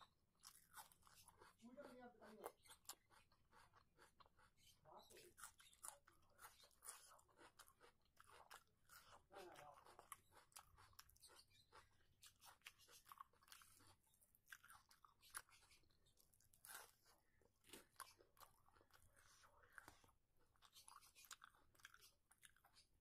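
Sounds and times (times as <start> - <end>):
person chewing and crunching food: 0.0 - 23.0.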